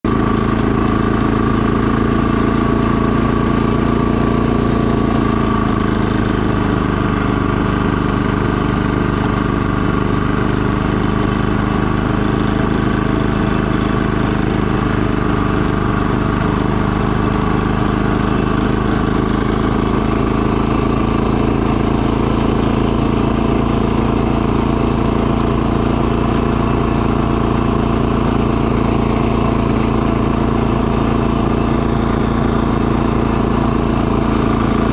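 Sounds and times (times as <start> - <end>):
snowblower engine running: 0.0 - 34.9.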